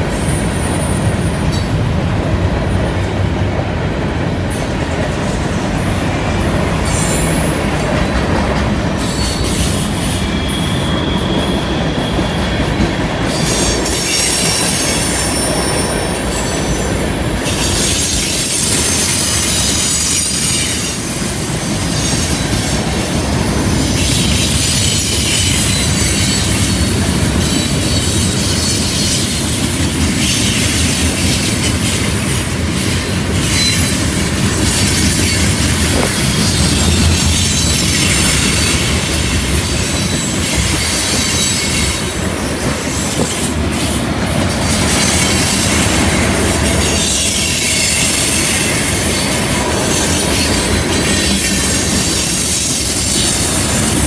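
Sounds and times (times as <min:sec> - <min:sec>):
train wheels rumbling over rails: 0:00.0 - 0:54.0
high wheel squeal: 0:06.8 - 0:54.0.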